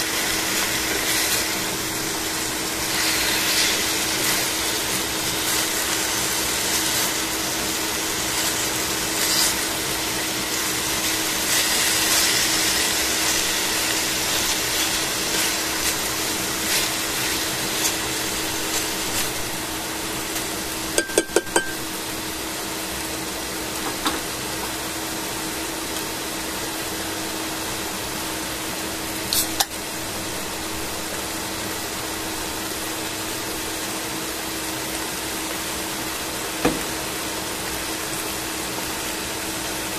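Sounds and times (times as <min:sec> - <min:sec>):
chicken sizzling in a frying pan: 0:00.0 - 0:39.9.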